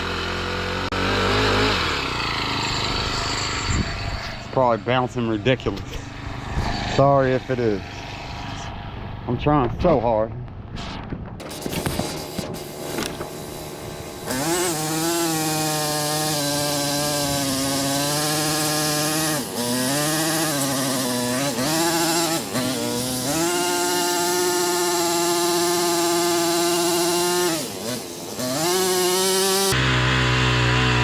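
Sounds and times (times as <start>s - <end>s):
tiller engine running under load: 0.0s - 6.5s, 11.4s - 31.0s.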